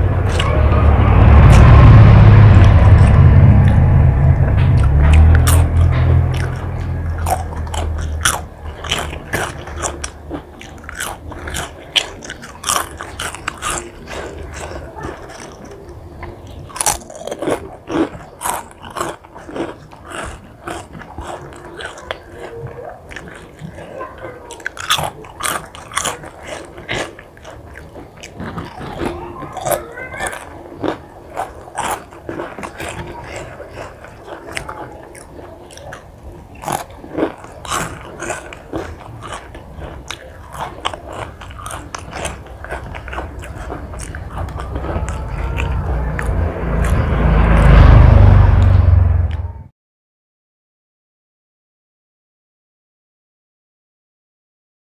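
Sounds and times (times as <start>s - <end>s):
person chewing crunchy food: 0.0s - 0.5s, 1.4s - 48.1s.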